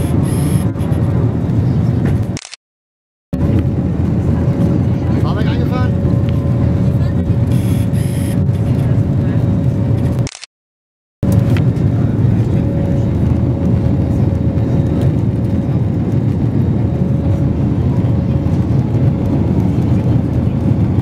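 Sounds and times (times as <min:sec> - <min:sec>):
jet engine cabin roar: 0:00.0 - 0:02.4, 0:03.4 - 0:10.3, 0:11.2 - 0:21.0.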